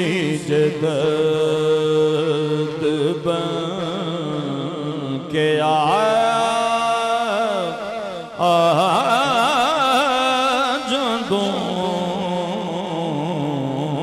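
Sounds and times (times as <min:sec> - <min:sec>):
man singing without instruments: 0:00.0 - 0:14.0.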